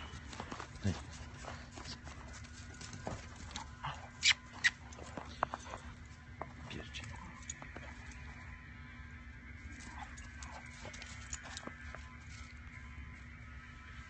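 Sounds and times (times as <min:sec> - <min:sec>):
dogs scuffling paws in snow: 0:00.0 - 0:08.8, 0:09.5 - 0:14.0.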